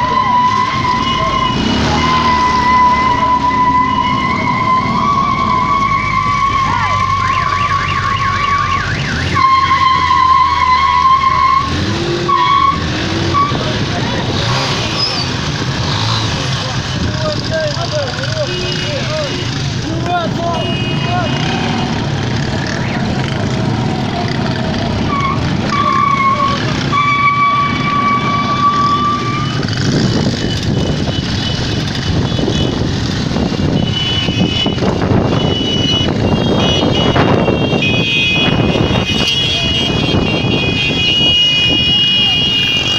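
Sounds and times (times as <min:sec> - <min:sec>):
car horns honking: 0:00.0 - 0:23.5, 0:24.3 - 0:42.9
car and motorbike engines: 0:00.0 - 0:42.9.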